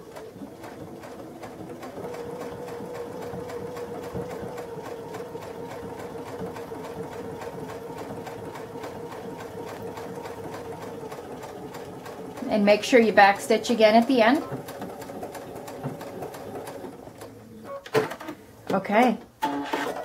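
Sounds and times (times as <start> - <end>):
sewing machine stitching: 0.0 - 17.4, 19.4 - 20.0.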